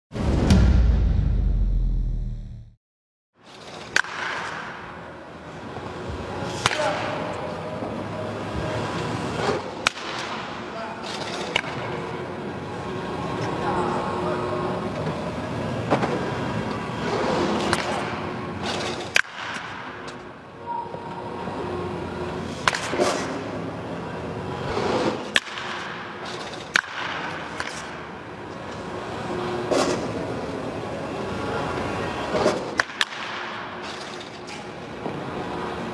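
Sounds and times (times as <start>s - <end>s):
indoor hall background noise: 3.4s - 35.9s.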